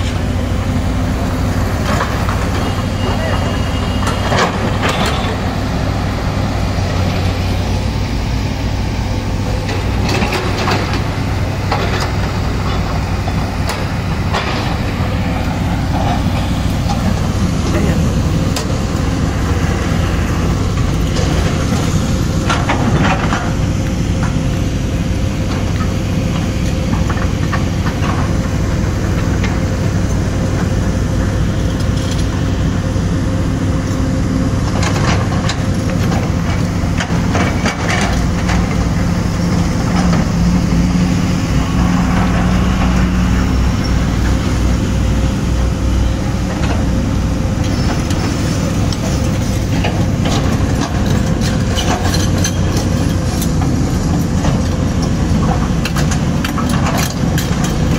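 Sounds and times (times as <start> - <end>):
excavator engines droning: 0.0 - 57.9.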